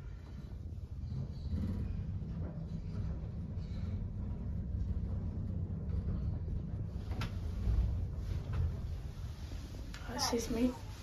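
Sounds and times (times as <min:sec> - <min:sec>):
lift car low rumble: 0:00.0 - 0:11.0.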